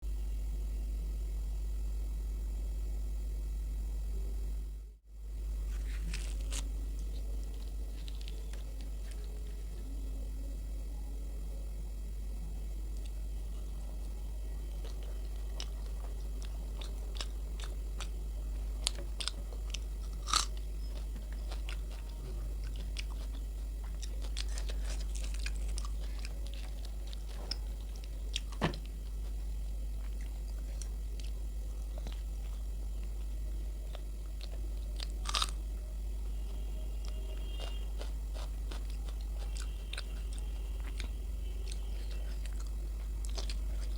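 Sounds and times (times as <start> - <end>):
low electrical hum: 0.0 - 43.9
chewing and crunching food: 5.6 - 10.3, 11.6 - 43.9.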